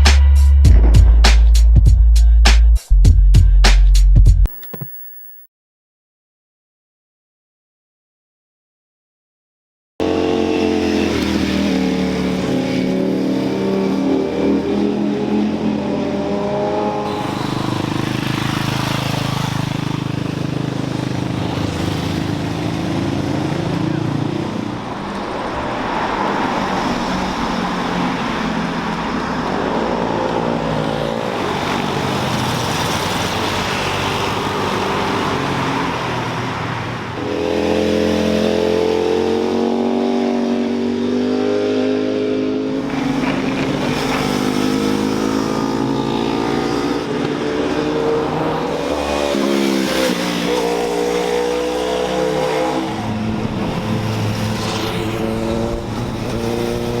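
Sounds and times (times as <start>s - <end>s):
motorcycle engines revving past: 10.0s - 57.0s.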